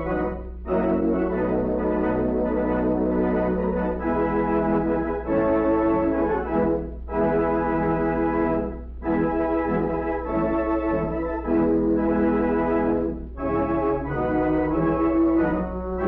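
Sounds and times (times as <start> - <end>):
organ chords: 0.0 - 16.0
steady low hum: 0.0 - 16.0.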